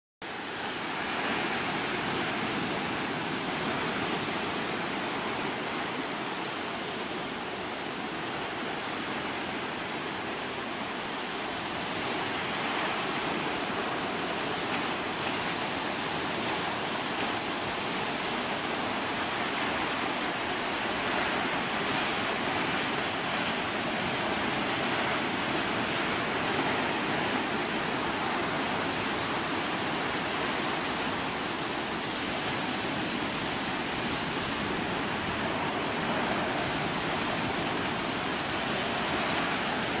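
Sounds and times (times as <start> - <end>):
ocean surf hissing: 0.3 - 40.0.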